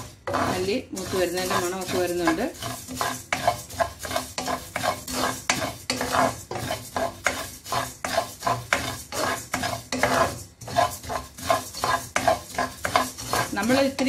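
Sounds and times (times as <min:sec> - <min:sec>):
spatula scraping seeds in pan: 0:00.0 - 0:14.0.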